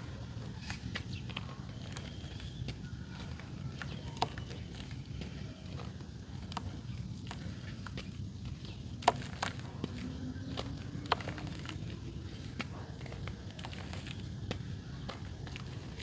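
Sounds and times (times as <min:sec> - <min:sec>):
dry clay crunching and cracking: 0:00.0 - 0:16.0
steady low rumble: 0:00.0 - 0:16.0.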